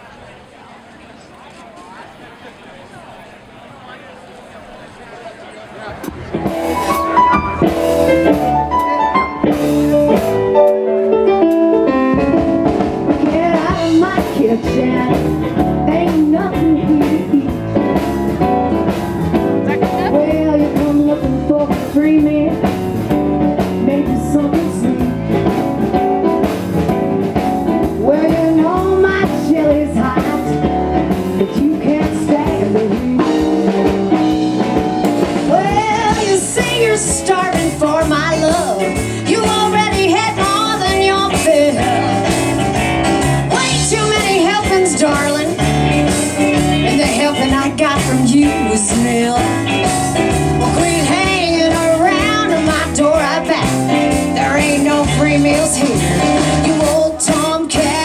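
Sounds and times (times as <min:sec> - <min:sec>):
blues band playing: 0:05.8 - 0:58.0.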